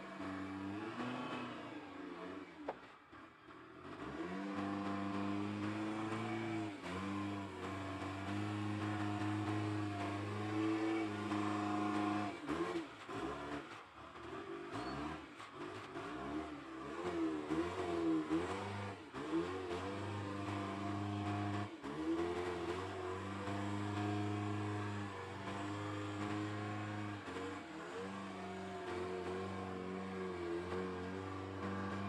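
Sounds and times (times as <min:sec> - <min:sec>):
forklift engine revving: 0:00.0 - 0:02.8, 0:03.5 - 0:32.0.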